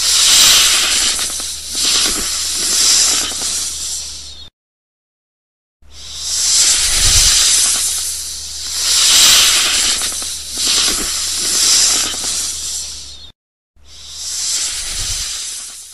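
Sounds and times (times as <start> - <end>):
snake hissing: 0.0 - 4.5, 5.8 - 15.9.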